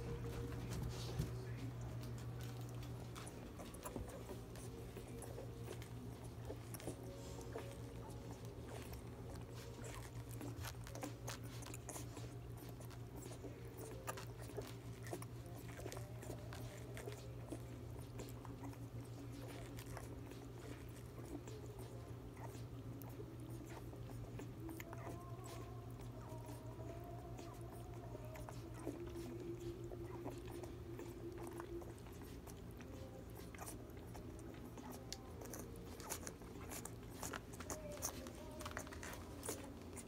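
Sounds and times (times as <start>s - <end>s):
puppies suckling wet clicks: 0.0s - 40.0s
steady low hum: 0.0s - 40.0s.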